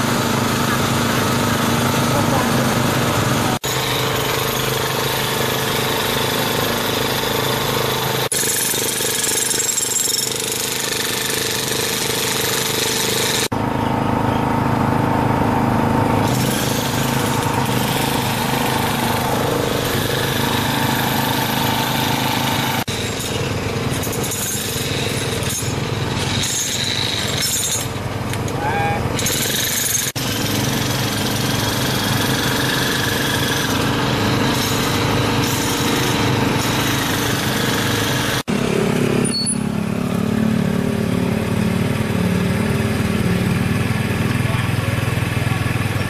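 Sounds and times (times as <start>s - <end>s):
engine-driven machinery running: 0.0s - 46.0s.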